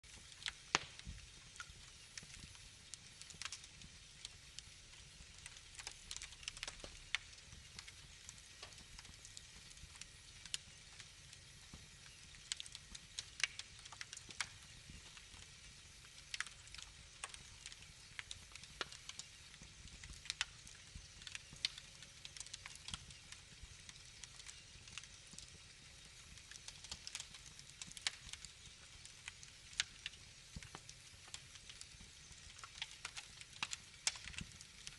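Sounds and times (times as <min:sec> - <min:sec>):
wood fire crackling: 0:00.0 - 0:34.9
low rumble of flames: 0:00.1 - 0:34.9.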